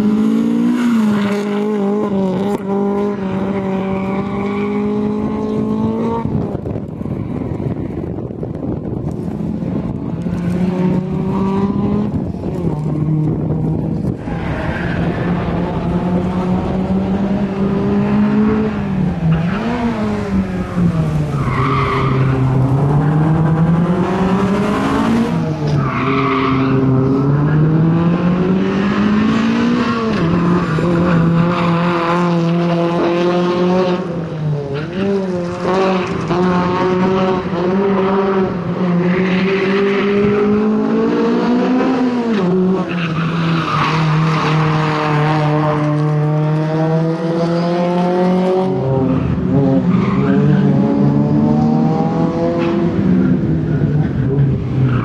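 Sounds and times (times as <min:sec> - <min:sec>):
car engine revving: 0:08.4 - 0:55.0.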